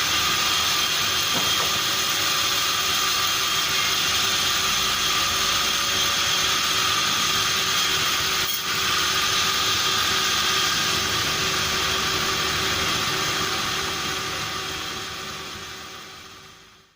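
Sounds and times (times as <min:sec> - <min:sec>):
sawmill machinery running: 0:00.0 - 0:16.9.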